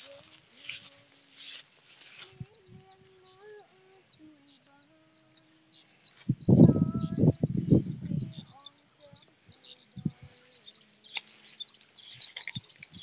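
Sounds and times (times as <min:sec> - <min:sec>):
small birds chirping: 0:00.0 - 0:13.0
low drawn-out bird call: 0:02.4 - 0:13.0.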